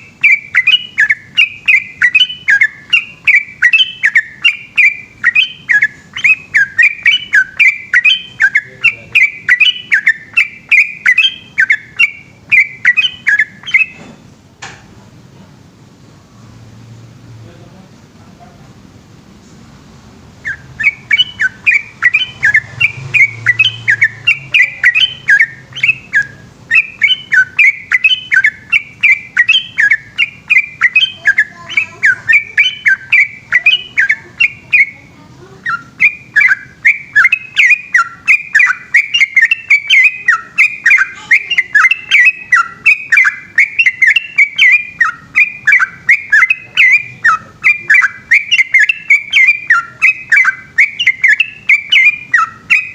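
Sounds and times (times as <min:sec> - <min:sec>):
bird chirping rapidly: 0:00.0 - 0:14.1, 0:20.3 - 0:52.9.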